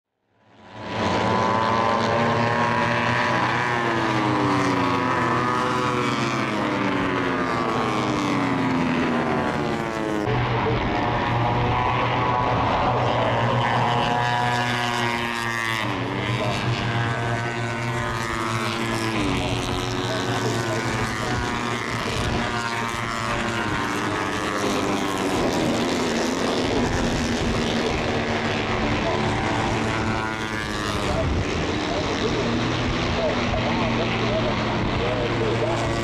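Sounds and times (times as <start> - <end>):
steady low drone: 0.3 - 36.0
race bike engines screaming: 0.8 - 36.0.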